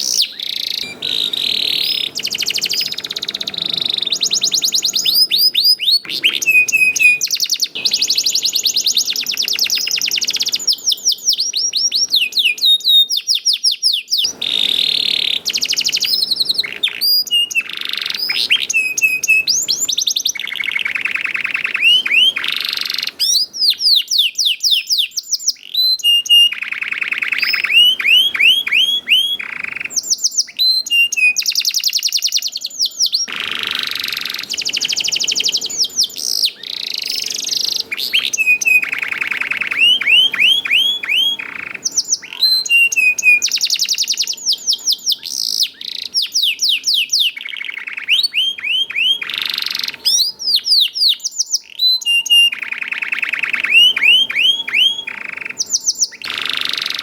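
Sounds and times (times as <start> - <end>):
canary singing chirps and trills: 0.0 - 57.0.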